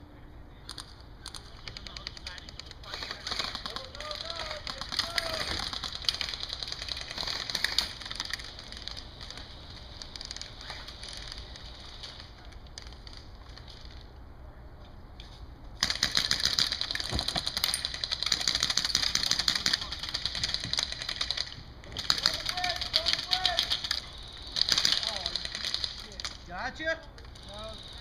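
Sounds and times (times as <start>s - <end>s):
airsoft guns firing full-auto: 1.3s - 13.2s, 15.8s - 26.5s.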